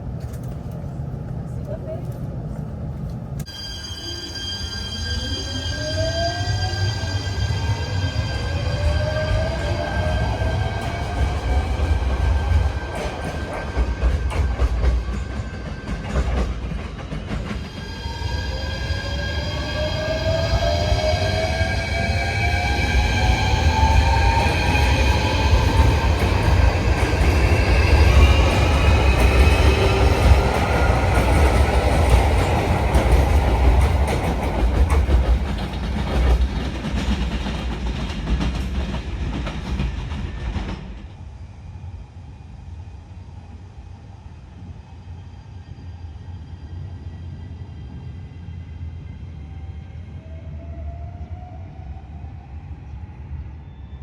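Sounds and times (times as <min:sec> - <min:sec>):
train rumbling and speeding up: 0:00.0 - 0:54.0.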